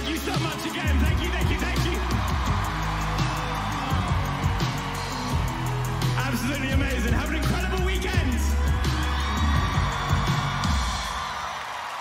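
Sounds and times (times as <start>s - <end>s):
live pop band playing: 0.0s - 11.2s
drum beat: 0.0s - 11.6s.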